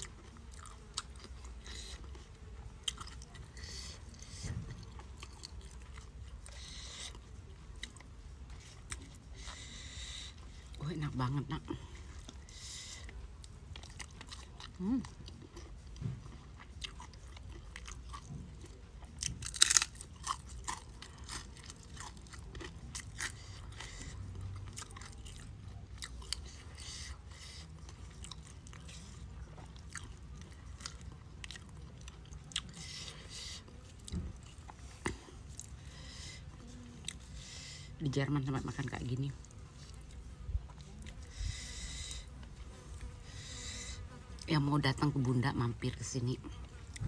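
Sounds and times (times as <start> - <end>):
person chewing and crunching food: 0.0 - 44.5.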